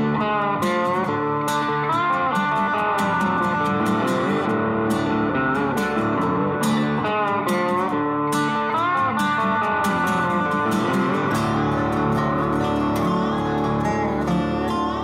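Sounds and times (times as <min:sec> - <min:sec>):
guitar music with steady beat: 0:00.0 - 0:15.0.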